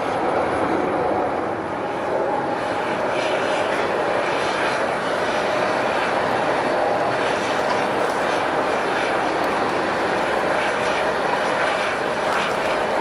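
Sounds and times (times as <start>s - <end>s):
airliner engines running: 0.0s - 13.0s.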